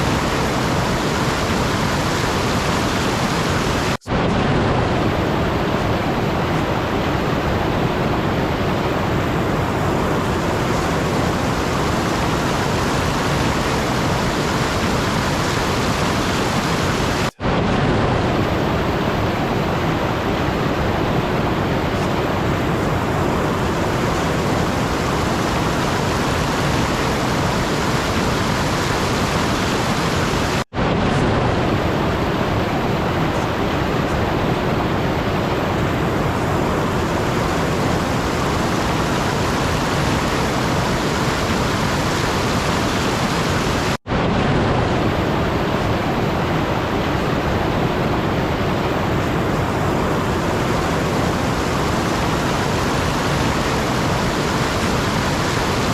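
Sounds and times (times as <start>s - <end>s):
loud steady hiss: 0.0s - 4.2s, 4.8s - 17.4s, 18.2s - 30.6s, 31.6s - 44.0s, 45.1s - 55.9s.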